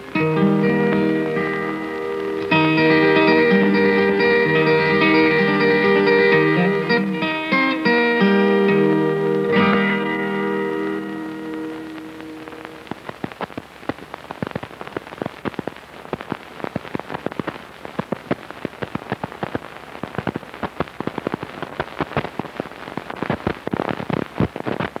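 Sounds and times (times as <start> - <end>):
film soundtrack crackles and pops: 0.0 - 25.0.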